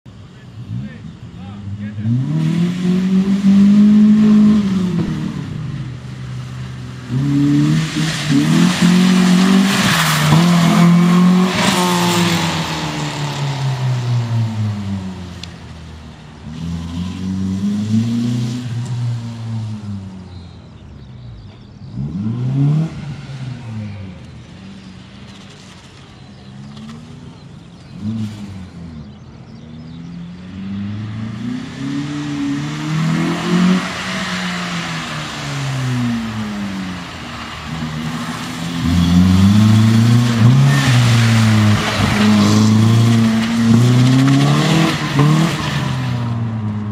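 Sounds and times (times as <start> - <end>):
car engine revving: 0.1 - 20.6, 21.5 - 46.9.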